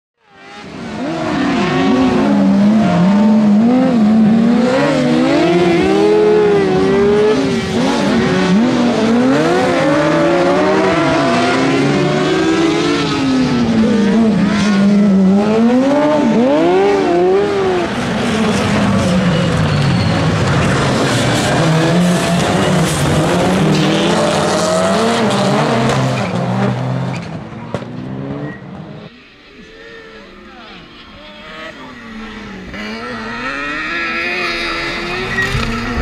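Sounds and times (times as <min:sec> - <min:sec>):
racing buggy engines revving: 0:00.2 - 0:36.0.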